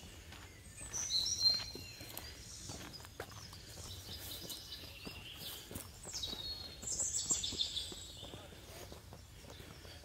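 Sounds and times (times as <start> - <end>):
footsteps on rocky dirt trail: 0.0 - 10.0
songbirds calling: 0.0 - 10.0.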